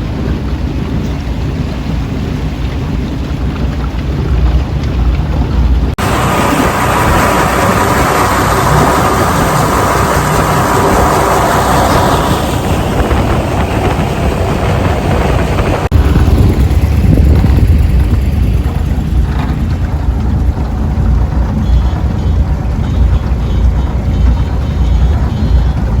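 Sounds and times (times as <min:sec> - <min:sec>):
engine running at speed: 0:00.0 - 0:26.0
wind rumble on microphone: 0:00.0 - 0:26.0.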